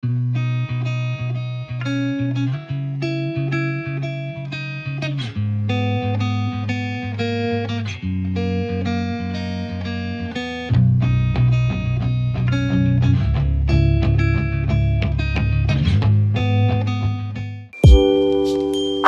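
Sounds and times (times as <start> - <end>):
gentle instrumental guitar music: 0.1 - 19.0.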